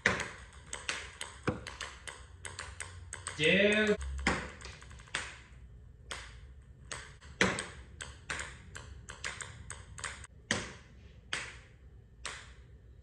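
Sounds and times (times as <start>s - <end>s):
ping pong balls bouncing: 0.0s - 13.0s.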